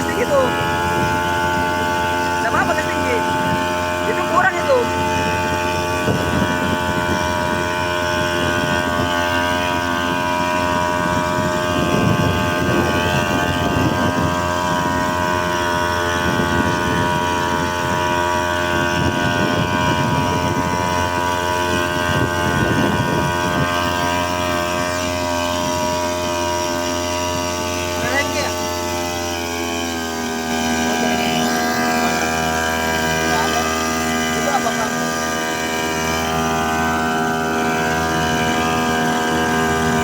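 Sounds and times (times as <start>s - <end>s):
small engine droning at high throttle: 0.0s - 40.0s.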